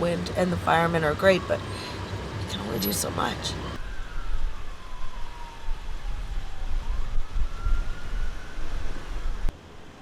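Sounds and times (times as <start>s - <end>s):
wind buffeting microphone: 0.0s - 9.5s
emergency vehicle siren wailing: 0.0s - 10.0s.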